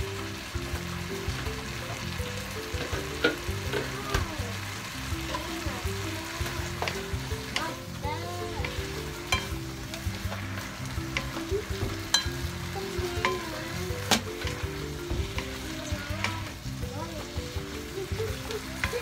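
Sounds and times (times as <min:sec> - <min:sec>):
noodles sizzling in a wok: 0:00.0 - 0:19.0
spatula scraping and knocking pan: 0:02.7 - 0:04.3, 0:05.2 - 0:19.0.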